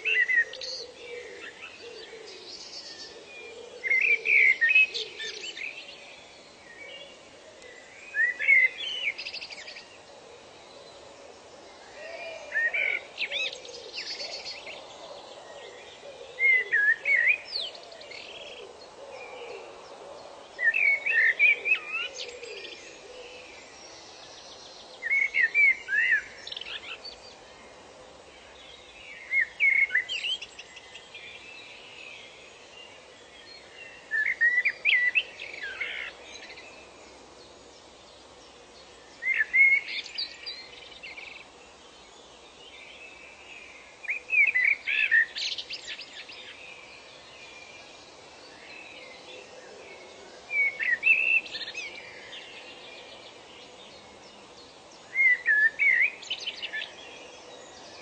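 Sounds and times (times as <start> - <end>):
faint background hiss: 0.0 - 58.0
songbird chirping: 0.0 - 58.0.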